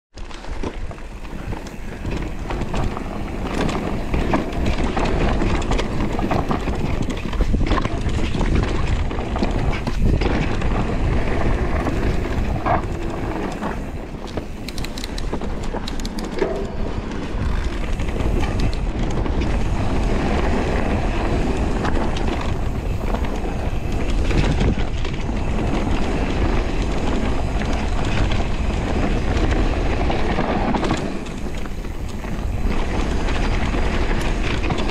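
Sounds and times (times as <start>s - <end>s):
bike clicks and rattles: 0.1s - 34.9s
tyres rumbling on dirt trail: 0.1s - 34.9s.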